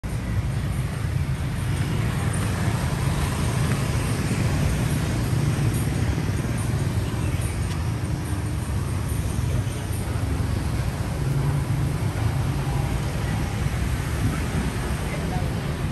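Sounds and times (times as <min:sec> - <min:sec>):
road noise: 0:00.0 - 0:15.9
motor scooters riding past: 0:00.5 - 0:15.9.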